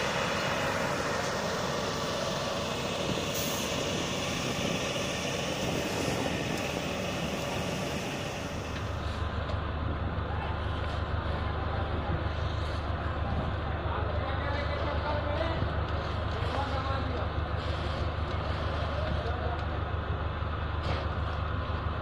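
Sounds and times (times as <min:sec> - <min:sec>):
heavy engine running: 0:00.0 - 0:22.0.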